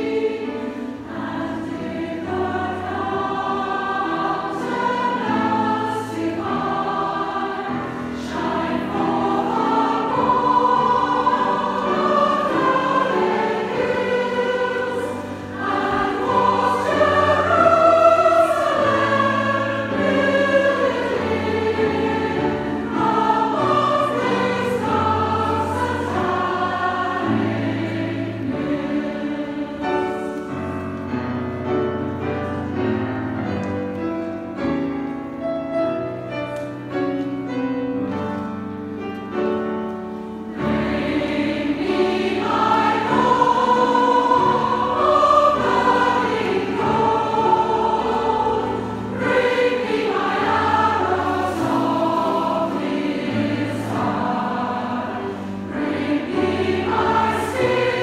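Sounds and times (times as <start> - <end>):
choir singing held notes: 0.0 - 30.9, 39.8 - 58.0.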